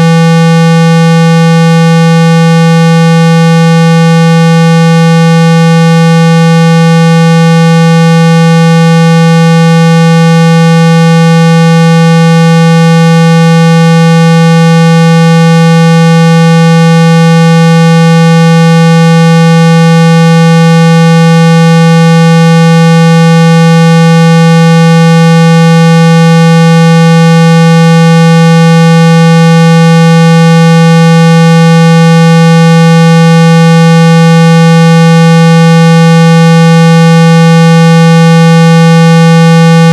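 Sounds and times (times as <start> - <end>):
loud steady test tone: 0.0 - 39.9.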